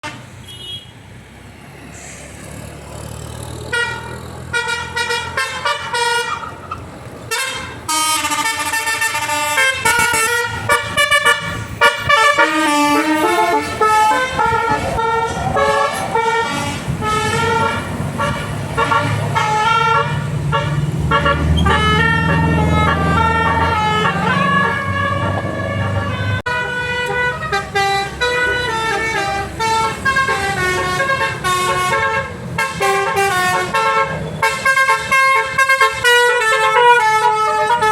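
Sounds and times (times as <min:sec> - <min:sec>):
multi-tone bus air horn tune: 0:00.0 - 0:01.0, 0:03.7 - 0:06.6, 0:07.3 - 0:37.9
bus engine rumbling: 0:00.0 - 0:37.9.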